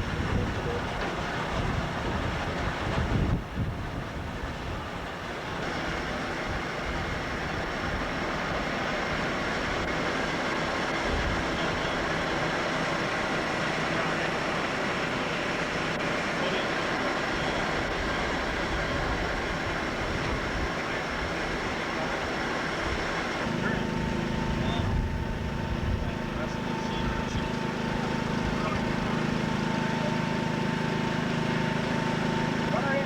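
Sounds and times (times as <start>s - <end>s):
engines droning: 0.0s - 33.0s.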